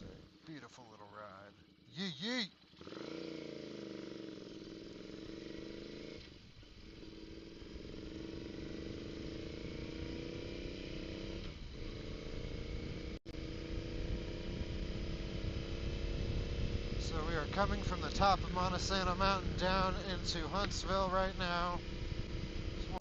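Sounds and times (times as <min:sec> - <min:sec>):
motorcycle engine accelerating: 0:01.2 - 0:23.0.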